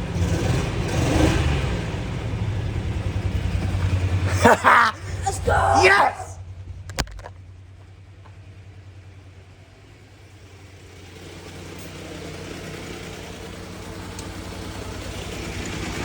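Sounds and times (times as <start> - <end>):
motorhome engine running: 0.0 - 16.0.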